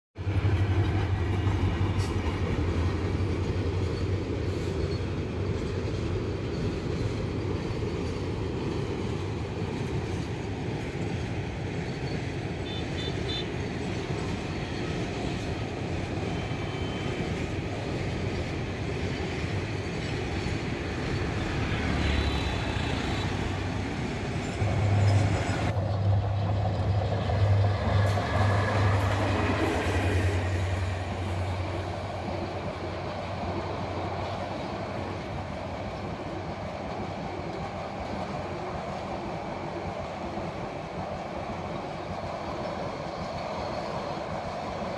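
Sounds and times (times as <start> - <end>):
diesel train rumbling past: 0.2 - 44.9.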